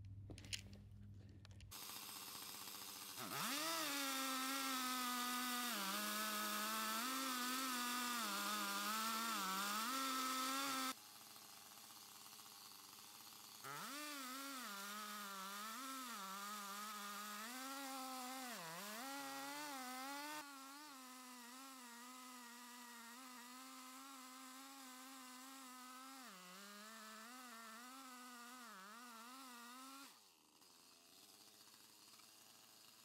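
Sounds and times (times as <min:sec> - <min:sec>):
chainsaw cutting log at full throttle: 0:01.7 - 0:33.0.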